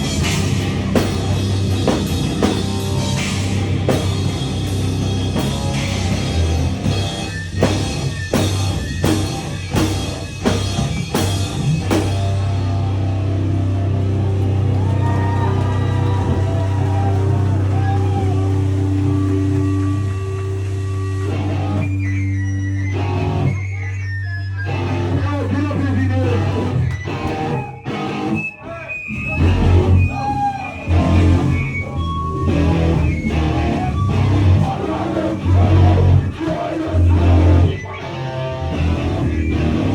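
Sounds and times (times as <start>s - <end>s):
loud band playing: 0.0s - 21.8s, 29.1s - 39.9s
drums: 0.0s - 23.6s, 24.7s - 39.9s
bass: 0.0s - 39.9s
distorted electric guitar: 0.0s - 39.9s.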